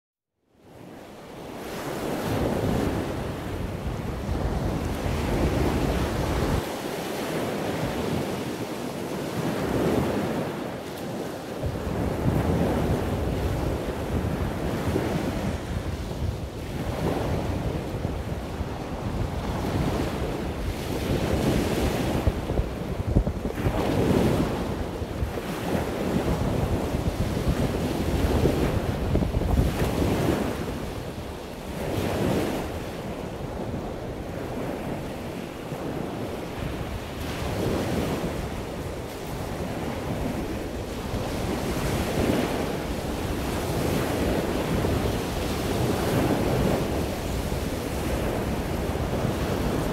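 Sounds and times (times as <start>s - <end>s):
surf washing on beach: 0.6s - 49.9s
wind buffeting microphone: 0.7s - 49.9s.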